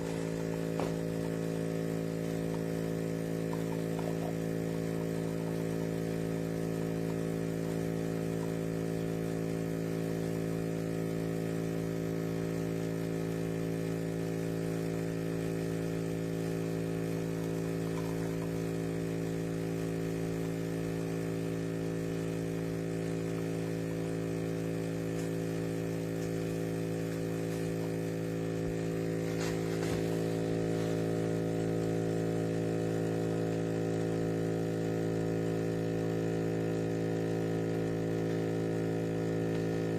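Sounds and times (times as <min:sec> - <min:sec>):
espresso machine pump buzzing: 0:00.0 - 0:39.9.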